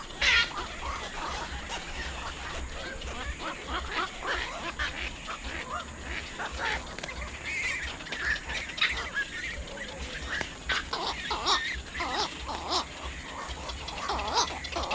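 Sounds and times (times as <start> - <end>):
waterbirds squawking and honking: 0.0 - 14.9.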